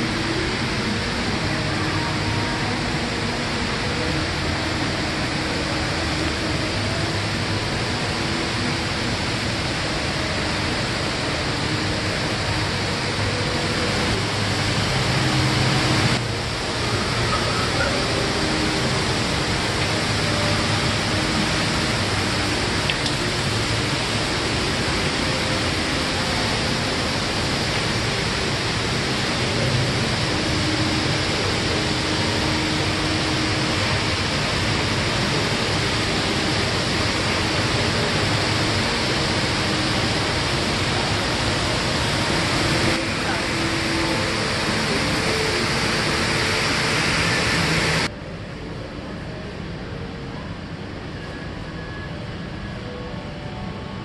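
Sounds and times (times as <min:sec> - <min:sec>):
indoor waterfall rushing: 0:00.0 - 0:54.0.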